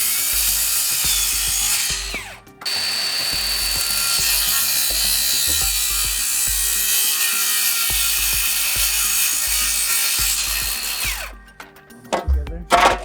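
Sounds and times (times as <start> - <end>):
saw motor winding down: 0.0 - 11.4
power saw cutting: 0.0 - 13.0.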